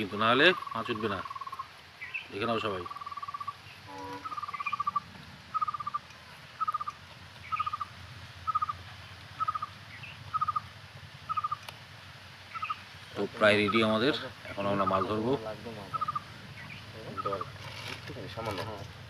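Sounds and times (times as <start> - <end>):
bird trilling call: 0.2 - 10.7, 11.3 - 11.7, 12.5 - 17.6.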